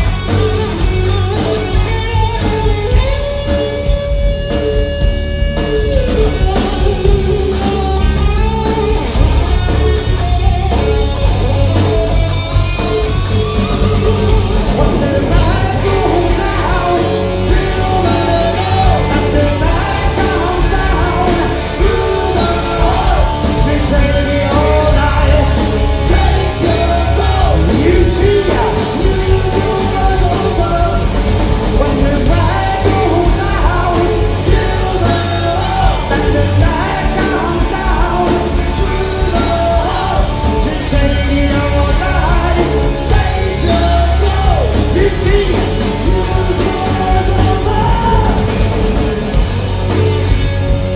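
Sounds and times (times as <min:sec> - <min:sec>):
electric guitar: 0:00.0 - 0:50.9
live rock band playing: 0:00.0 - 0:50.9.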